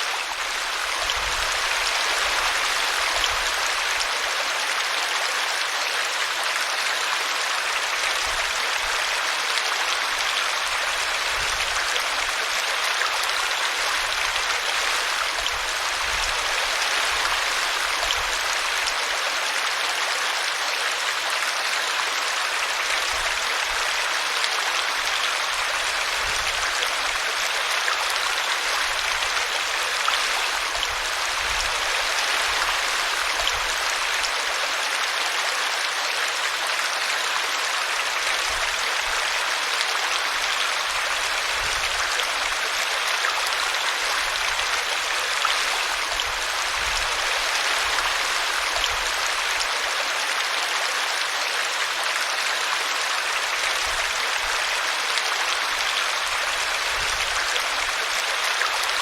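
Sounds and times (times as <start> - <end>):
brook running and splashing: 0.0 - 59.0.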